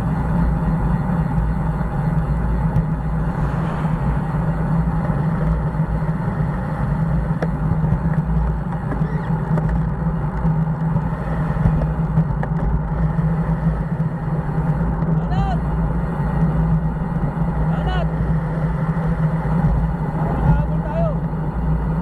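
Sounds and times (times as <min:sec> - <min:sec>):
bicycle road rumble: 0:00.0 - 0:22.0
passing motor traffic: 0:00.0 - 0:22.0
wind rush on microphone: 0:00.0 - 0:22.0.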